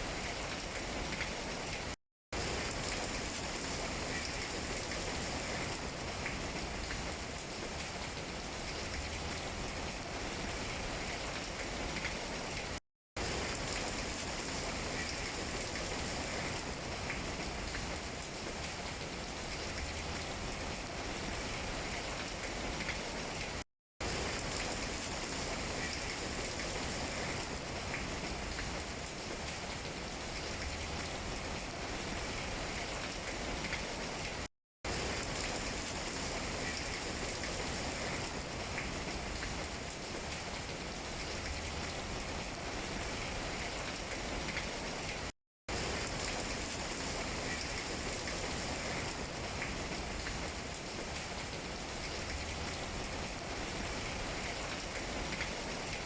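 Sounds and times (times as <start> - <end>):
rain falling on tree leaves: 0.0 - 56.0.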